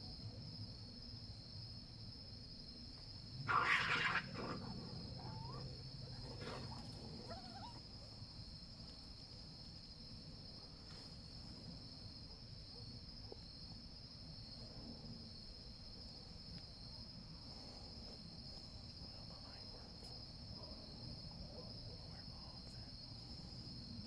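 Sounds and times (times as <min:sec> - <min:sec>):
night insects buzzing: 0:00.0 - 0:24.0.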